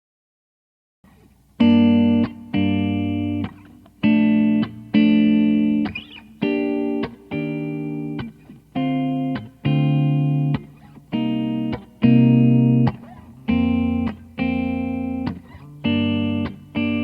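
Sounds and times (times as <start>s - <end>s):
electric guitar strumming chords: 1.1s - 17.0s.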